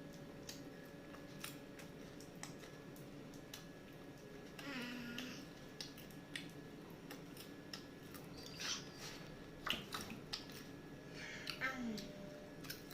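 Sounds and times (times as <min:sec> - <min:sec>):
popcorn being chewed: 0:00.0 - 0:12.9.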